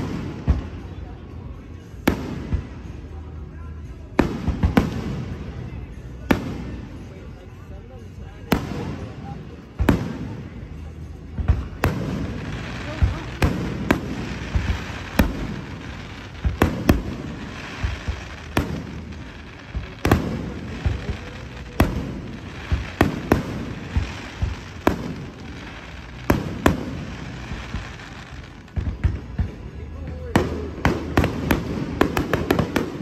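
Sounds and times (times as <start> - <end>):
firework bangs: 0.0 - 1.1, 4.2 - 7.4, 8.4 - 33.0
firework crackling: 0.0 - 33.0.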